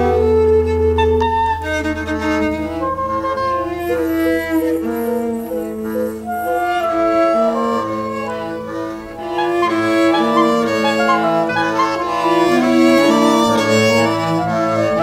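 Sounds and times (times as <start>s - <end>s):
bowed strings music: 0.0s - 15.0s.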